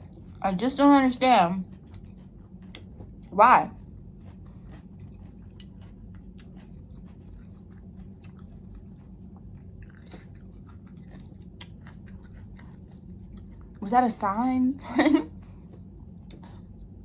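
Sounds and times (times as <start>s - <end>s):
person chewing food: 0.0s - 1.0s, 1.6s - 13.8s, 15.3s - 17.0s.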